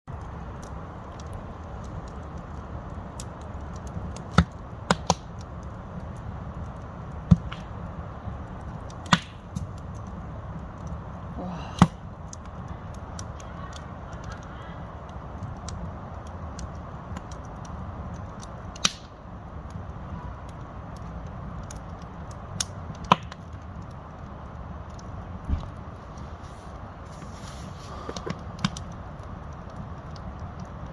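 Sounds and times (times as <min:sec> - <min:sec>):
burning logs popping and cracking: 0:00.1 - 0:30.9
fire flames rustling: 0:00.1 - 0:30.9.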